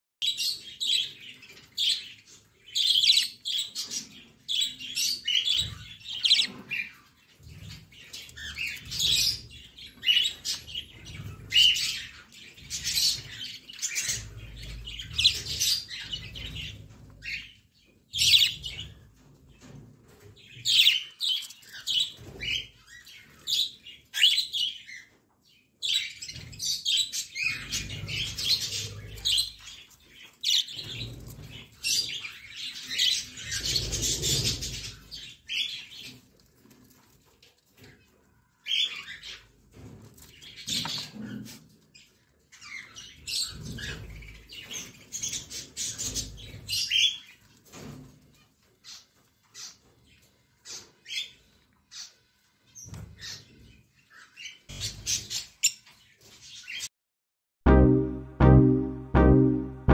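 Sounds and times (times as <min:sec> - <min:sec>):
budgerigars chirping and chattering: 0:00.2 - 0:37.1, 0:37.8 - 0:56.9.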